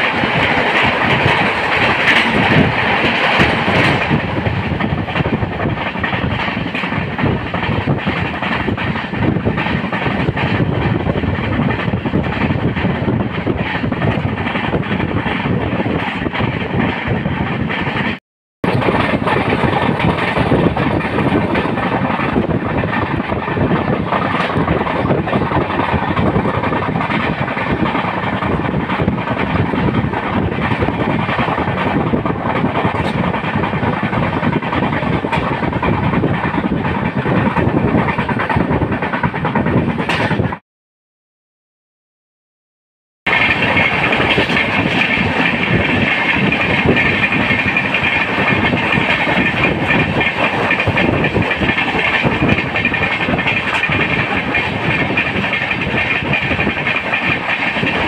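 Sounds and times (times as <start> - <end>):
train rumbling on rails: 0.0 - 40.6, 43.3 - 58.0.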